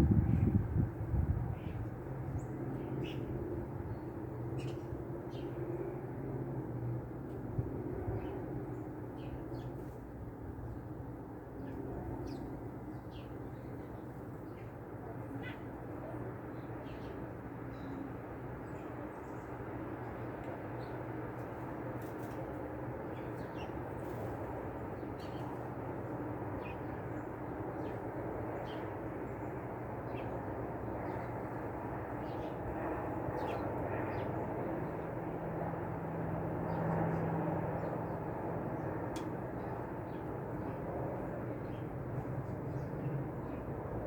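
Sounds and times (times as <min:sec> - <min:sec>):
small songbirds chipping: 0:00.1 - 0:44.0.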